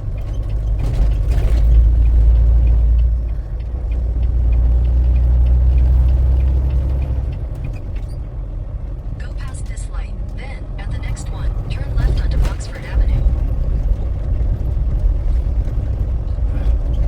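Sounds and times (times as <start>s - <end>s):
diesel truck engine rumble: 0.0s - 17.0s
road noise: 0.0s - 17.0s.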